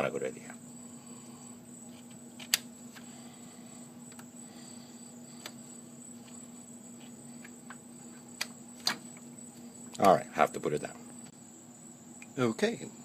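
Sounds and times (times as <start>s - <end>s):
faint hum and hiss: 0.0s - 13.0s.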